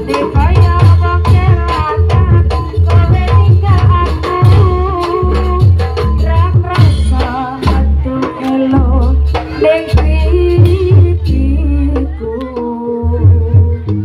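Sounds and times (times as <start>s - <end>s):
heavy drum beat: 0.0s - 14.0s
person singing: 0.0s - 14.0s.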